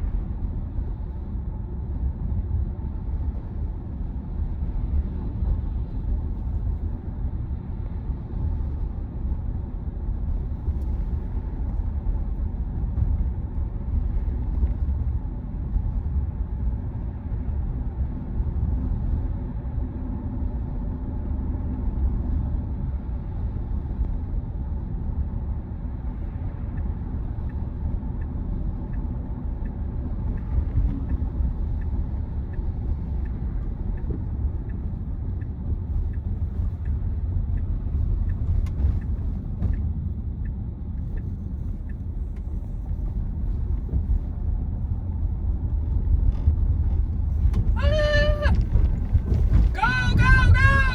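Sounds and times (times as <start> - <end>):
road and tyre rumble in car: 0.0 - 50.9.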